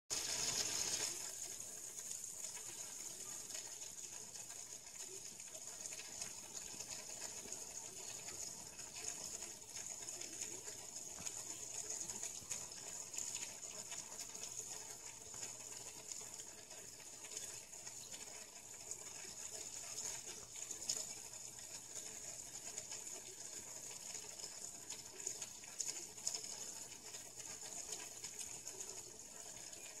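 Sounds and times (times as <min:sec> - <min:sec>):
aquarium water trickling: 0:00.1 - 0:30.0.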